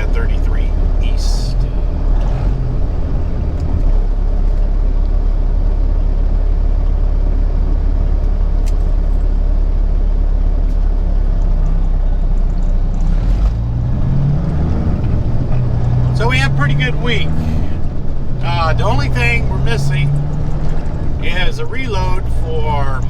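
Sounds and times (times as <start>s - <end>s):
road noise: 0.0s - 23.0s
truck diesel engine: 0.0s - 23.0s.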